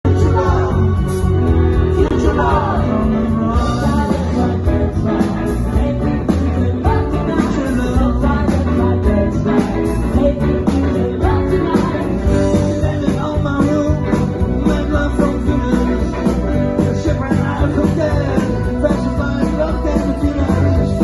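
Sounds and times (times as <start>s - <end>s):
person singing: 0.0s - 21.0s
rock band playing live: 0.0s - 21.0s.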